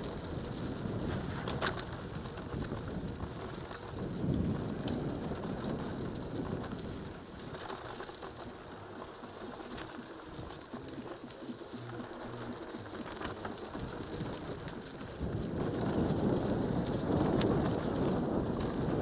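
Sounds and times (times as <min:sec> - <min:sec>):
bike clicks and rattles: 0:00.0 - 0:19.0
bike tyres on gravel: 0:00.0 - 0:19.0
wind rumbling over microphone: 0:00.0 - 0:19.0.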